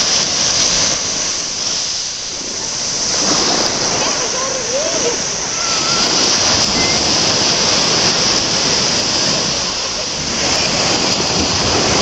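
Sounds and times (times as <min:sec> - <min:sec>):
small waves breaking on beach: 0:00.0 - 0:12.0.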